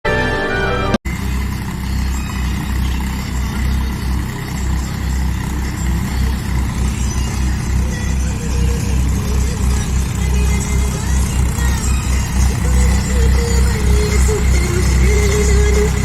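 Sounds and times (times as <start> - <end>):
tractor diesel engine running: 0.1 - 16.0.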